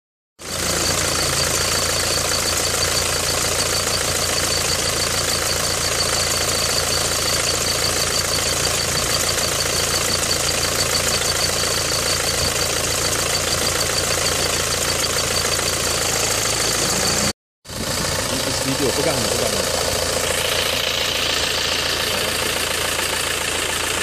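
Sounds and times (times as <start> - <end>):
diesel engine idling: 0.4 - 24.0
fast high-pitched engine ticking: 0.4 - 24.0.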